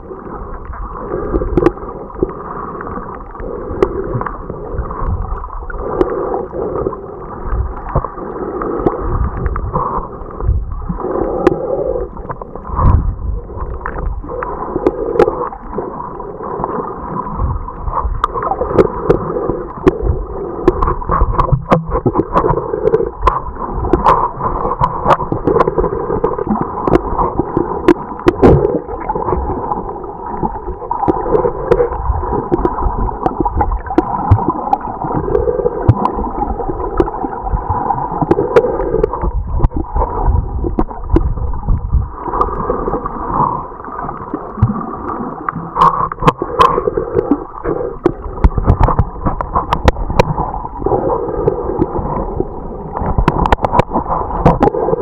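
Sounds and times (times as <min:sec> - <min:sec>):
muffled underwater gurgling and sloshing: 0:00.0 - 0:55.0.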